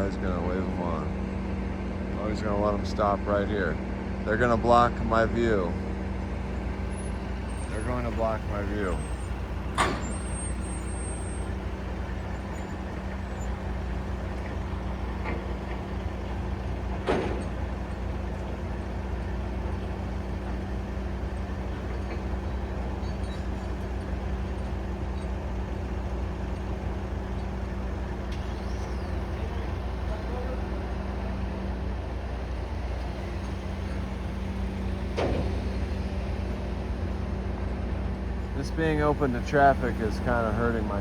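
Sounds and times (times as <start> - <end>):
heavy vehicle engine idling: 0.0 - 41.0.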